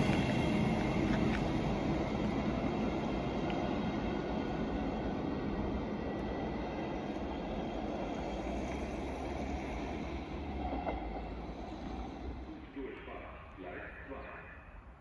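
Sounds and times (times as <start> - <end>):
train wheels rumbling on rails: 0.0 - 14.2.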